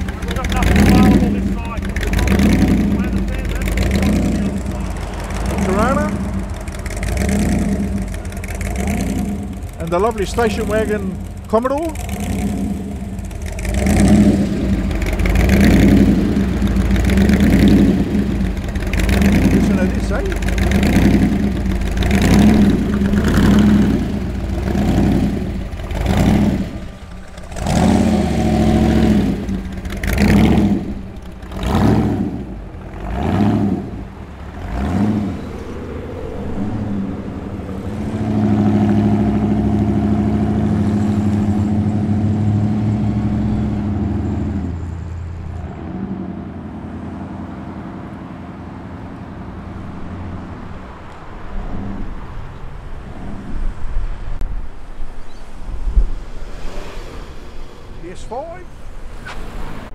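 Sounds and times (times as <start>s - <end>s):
hot rod engine revving: 0.0s - 54.4s.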